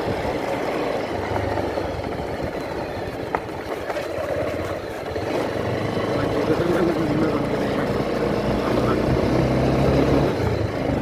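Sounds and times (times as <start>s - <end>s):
motorbike engine riding: 0.0s - 11.0s
road noise: 0.0s - 11.0s.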